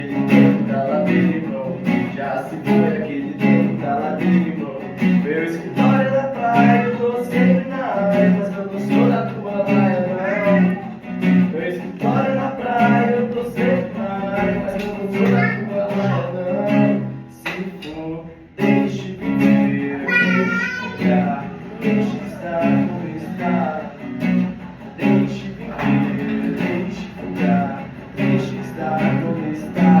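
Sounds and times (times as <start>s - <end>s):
acoustic guitar strumming: 0.0s - 30.0s
man singing: 0.0s - 30.0s.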